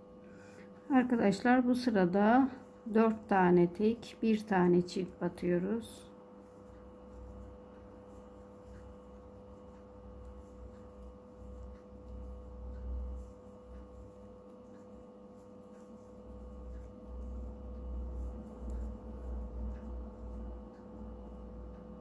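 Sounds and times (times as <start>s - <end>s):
electrical hum: 0.0s - 22.0s
crochet hook ticking on yarn: 2.0s - 22.0s.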